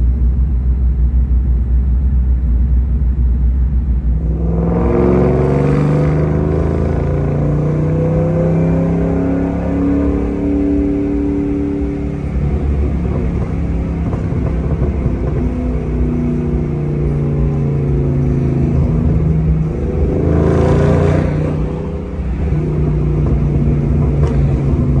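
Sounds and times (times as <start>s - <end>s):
car engine from inside cabin: 0.0s - 25.0s.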